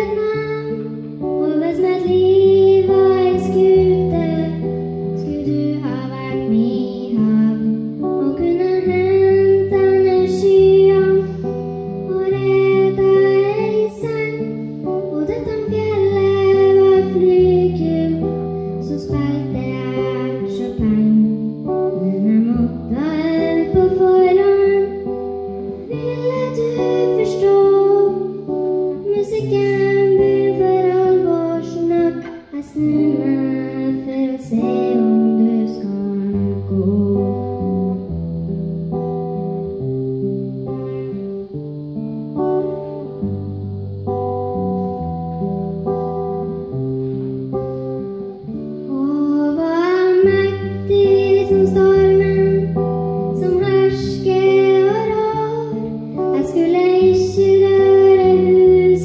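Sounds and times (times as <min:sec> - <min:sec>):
girl singing into a microphone: 0:00.0 - 0:38.2, 0:40.6 - 0:41.5, 0:44.1 - 0:59.0
acoustic guitar: 0:00.0 - 0:59.0.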